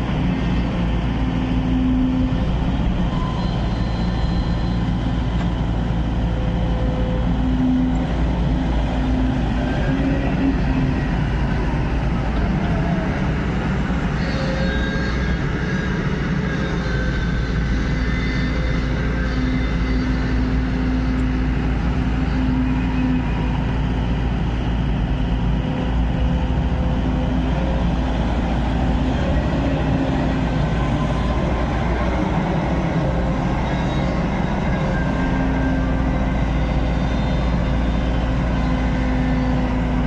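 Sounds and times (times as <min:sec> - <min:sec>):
diesel engine droning: 0:00.0 - 0:40.0.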